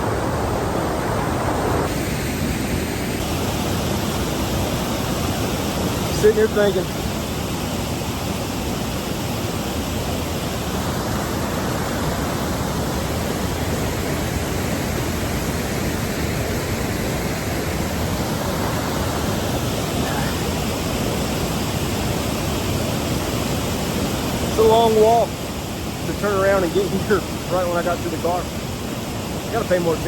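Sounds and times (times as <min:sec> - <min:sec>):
waterfall rushing and splashing: 0:00.0 - 0:30.0.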